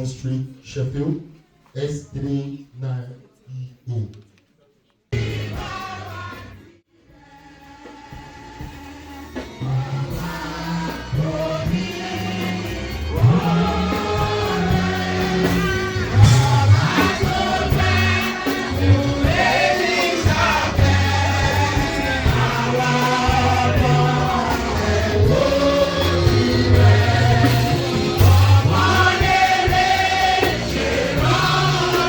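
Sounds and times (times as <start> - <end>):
choir singing gospel music: 5.1 - 32.0
band with steady bass line: 5.2 - 6.7, 7.6 - 32.0.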